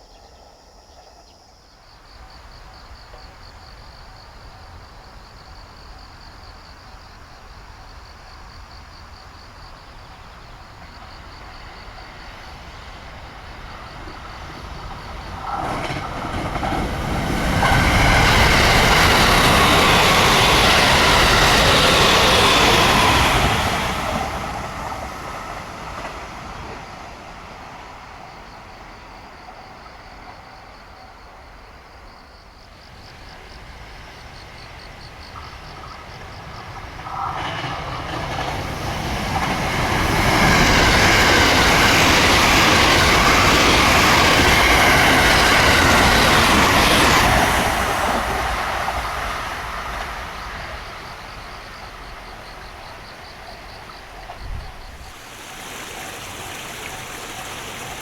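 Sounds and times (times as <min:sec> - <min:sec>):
train passing on rails: 0:00.0 - 0:58.0.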